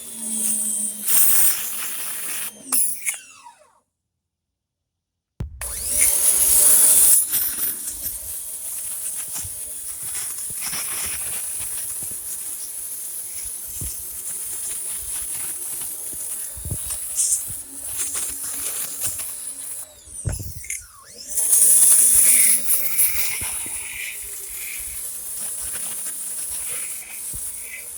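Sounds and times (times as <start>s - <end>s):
pressure washer water spray hissing: 1.0s - 2.5s, 5.7s - 20.8s, 21.4s - 27.9s
electric motor and pump hum: 5.4s - 27.9s.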